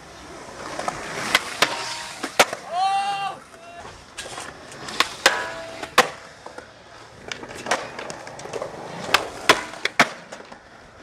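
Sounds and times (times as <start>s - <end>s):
skateboard cracks and clacks: 0.6s - 2.8s, 3.4s - 11.0s.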